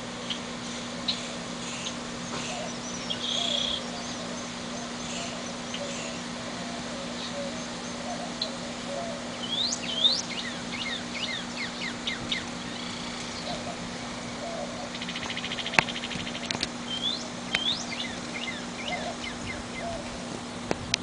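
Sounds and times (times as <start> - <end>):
songbirds calling: 0.0 - 21.0
steady low hum: 0.0 - 21.0.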